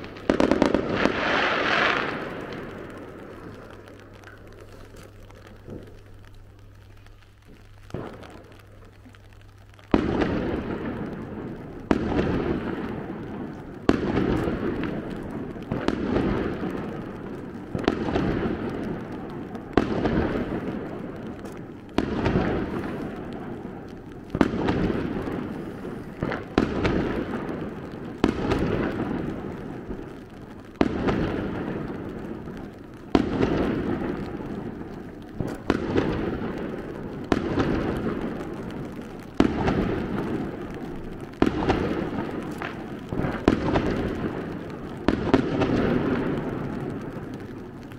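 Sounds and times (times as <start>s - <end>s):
firework shells bursting: 0.0s - 47.9s.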